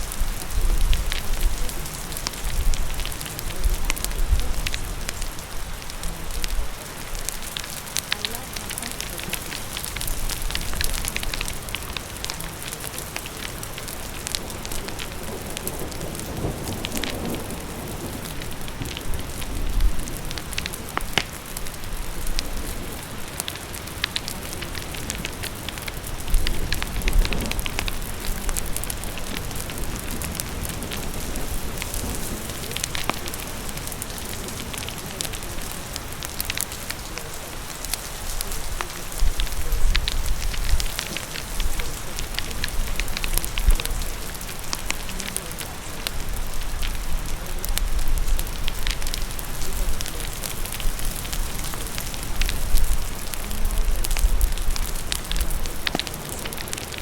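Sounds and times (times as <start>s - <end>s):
fire crackling: 0.0s - 57.0s
rain hissing: 0.0s - 57.0s.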